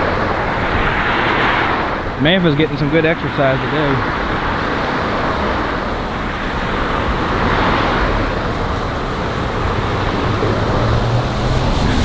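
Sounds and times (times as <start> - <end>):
road traffic passing: 0.0 - 12.0
wind blowing across microphone: 0.0 - 12.0.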